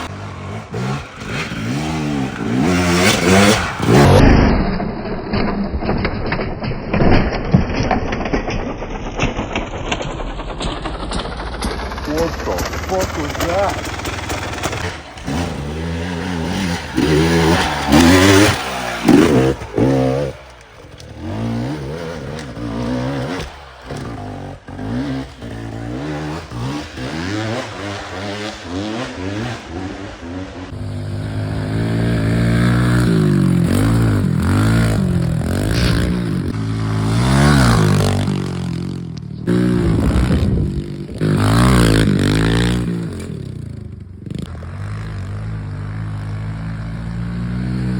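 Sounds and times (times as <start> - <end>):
dirt bike engine revving: 0.0 - 4.8, 10.6 - 47.9.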